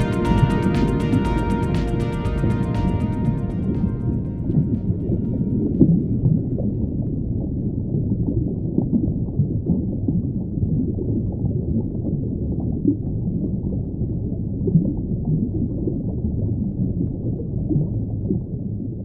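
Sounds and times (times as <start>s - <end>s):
muffled low rumble: 0.0s - 16.6s.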